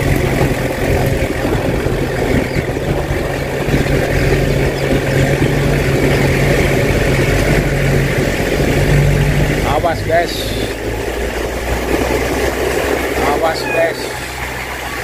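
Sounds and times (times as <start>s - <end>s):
constant rushing noise: 0.0s - 15.0s
vehicle engine running: 0.0s - 15.0s.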